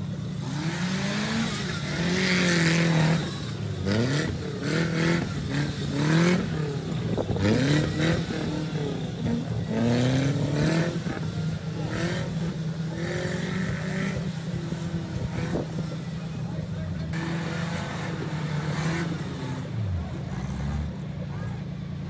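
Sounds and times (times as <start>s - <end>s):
engine revving: 0.0s - 21.2s.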